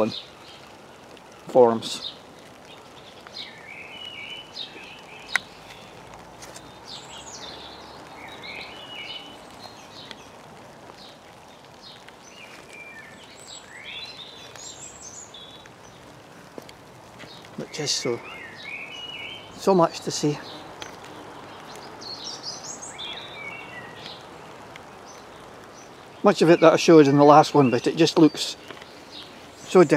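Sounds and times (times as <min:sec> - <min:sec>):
blackbird singing: 0:00.0 - 0:06.0, 0:06.6 - 0:29.9.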